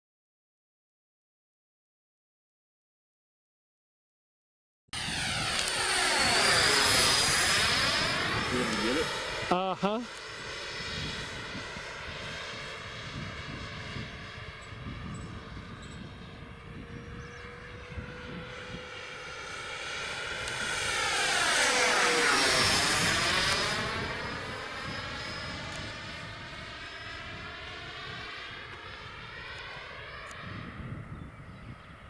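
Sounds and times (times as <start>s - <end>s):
electric ducted fan jet whining: 5.0s - 32.0s.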